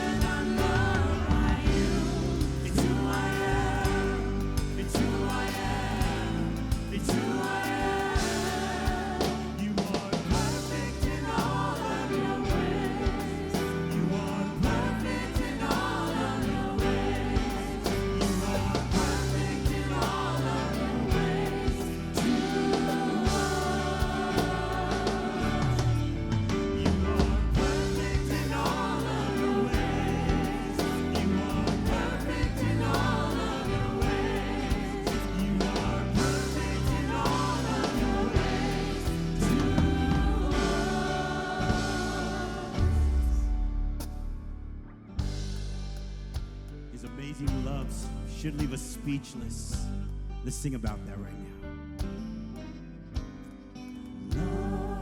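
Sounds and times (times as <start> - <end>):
people singing: 0.0 - 44.2, 54.1 - 55.0
drums steady beat: 0.0 - 44.4, 45.2 - 48.9, 54.4 - 55.0
band playing worship music: 0.0 - 55.0.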